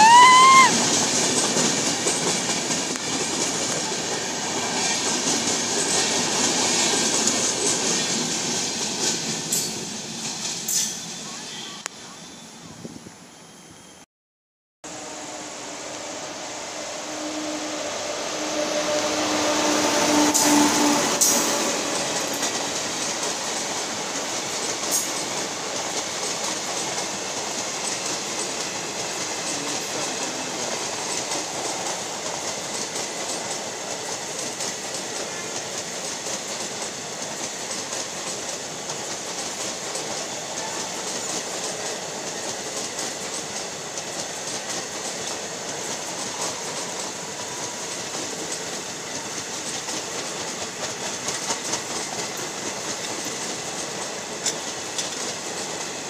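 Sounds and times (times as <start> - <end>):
wheels clattering on rails: 0.0 - 11.4, 19.0 - 56.0
train coaches rumbling: 0.0 - 13.7, 14.9 - 56.0
electric locomotive passing: 0.0 - 14.0, 14.9 - 56.0.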